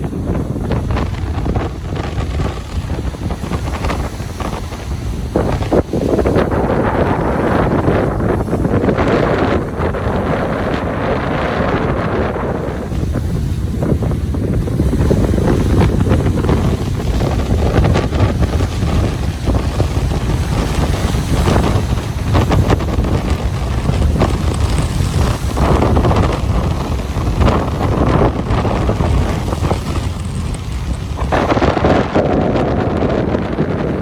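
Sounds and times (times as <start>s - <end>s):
ocean waves on beach: 0.0s - 34.0s
wind buffeting microphone: 0.0s - 34.0s.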